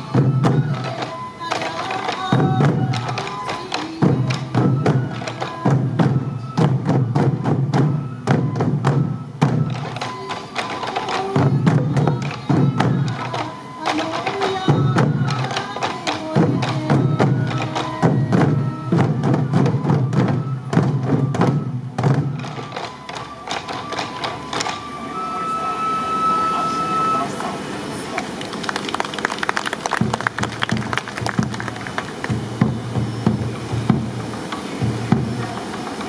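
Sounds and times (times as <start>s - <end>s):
taiko drums beating: 0.0s - 27.2s, 28.2s - 36.0s
high flute melody: 0.0s - 28.9s.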